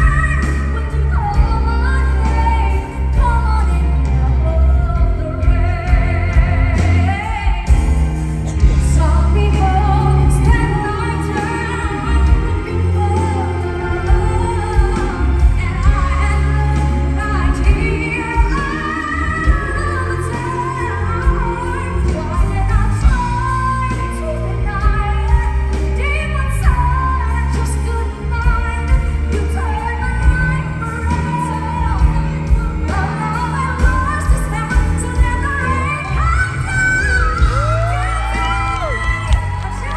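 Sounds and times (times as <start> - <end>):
full band playing: 0.0 - 39.9
heavy bass line: 0.0 - 39.9
women singing pop song: 0.0 - 39.9.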